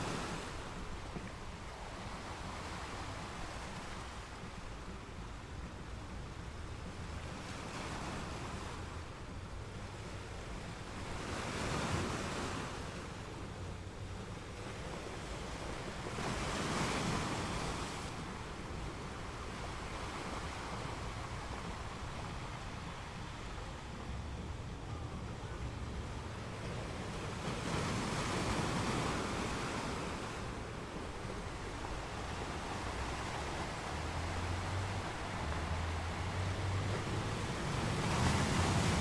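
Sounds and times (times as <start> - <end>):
ocean waves breaking on beach: 0.0 - 39.0.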